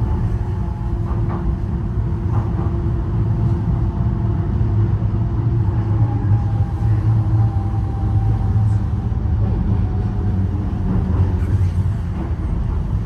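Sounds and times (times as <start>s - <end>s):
train interior drone and rumble: 0.0s - 13.0s.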